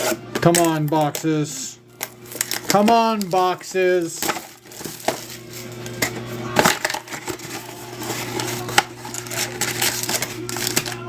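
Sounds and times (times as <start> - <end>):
steady low hum: 0.0 - 11.0
trading cards crackling: 0.0 - 11.0.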